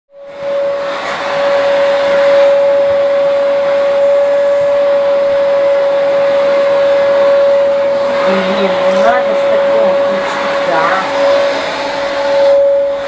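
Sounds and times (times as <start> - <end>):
vacuum cleaner running: 0.1 - 13.0.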